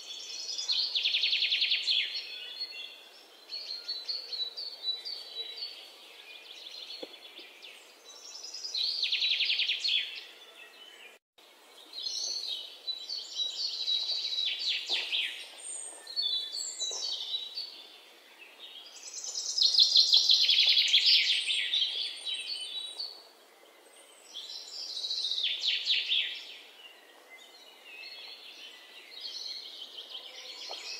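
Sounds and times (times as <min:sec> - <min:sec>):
birds chirping and trilling: 0:00.0 - 0:30.9.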